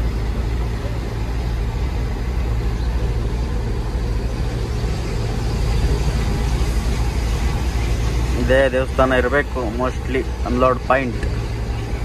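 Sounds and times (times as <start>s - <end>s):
truck diesel engine drone: 0.0s - 12.0s.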